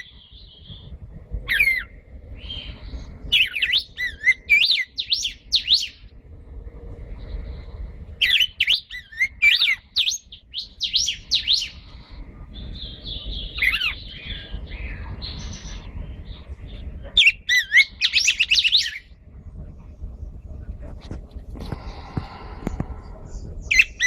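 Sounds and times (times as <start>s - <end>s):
songbirds singing and chirping: 0.0s - 24.0s.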